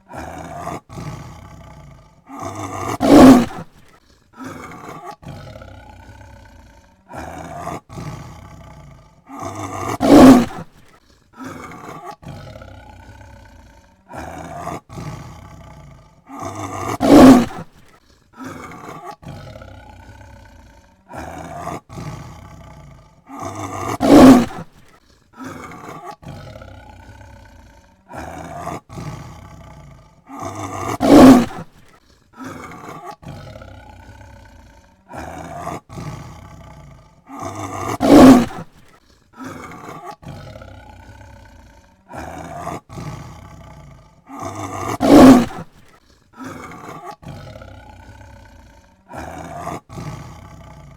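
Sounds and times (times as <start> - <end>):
tiger roaring: 0.0 - 50.9.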